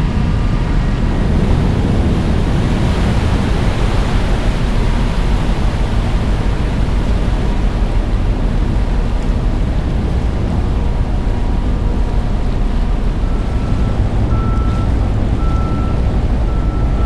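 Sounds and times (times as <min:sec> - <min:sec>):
boat engine low rumble: 0:00.0 - 0:17.0
water rushing: 0:00.0 - 0:17.0
wind buffeting microphone: 0:00.0 - 0:17.0.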